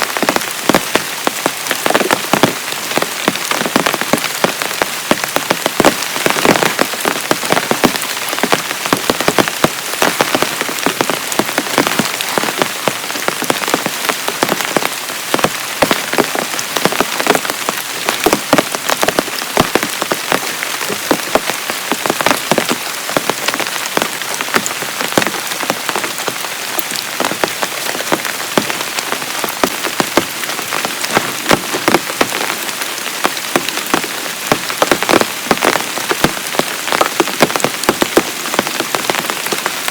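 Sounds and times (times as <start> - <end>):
heavy rain falling: 0.0 - 39.9
raindrops striking a surface: 0.0 - 39.9.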